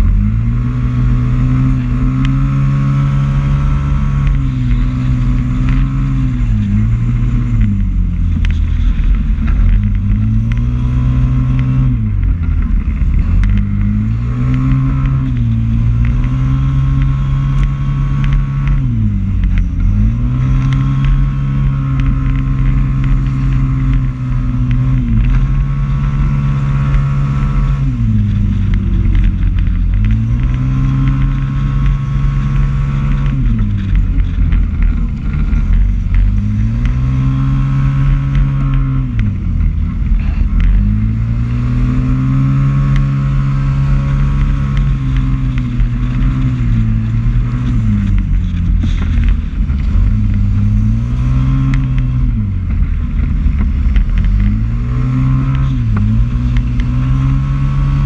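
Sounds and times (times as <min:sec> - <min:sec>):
motorcycle engine revving: 0:00.0 - 0:58.0
wind and road rumble: 0:00.0 - 0:58.0.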